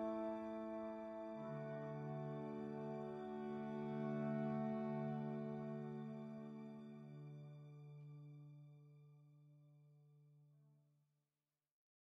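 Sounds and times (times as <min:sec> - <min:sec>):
soft held chord music: 0:00.0 - 0:09.9.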